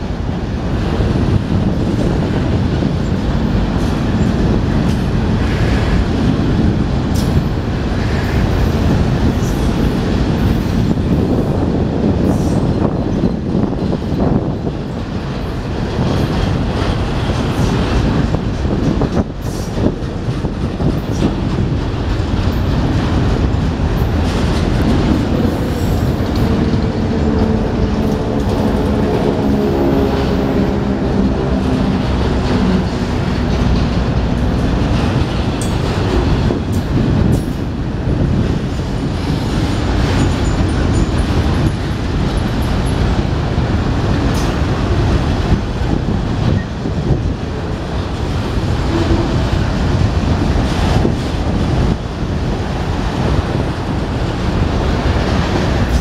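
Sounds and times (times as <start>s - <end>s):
rail joint clicks: 0.0s - 56.0s
train wheels rumbling on rail: 0.0s - 56.0s.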